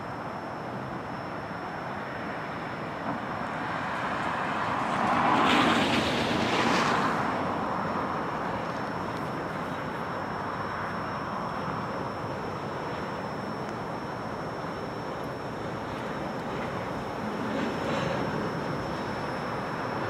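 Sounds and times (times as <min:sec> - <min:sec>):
freight cars rumbling over rails: 0:00.6 - 0:20.0.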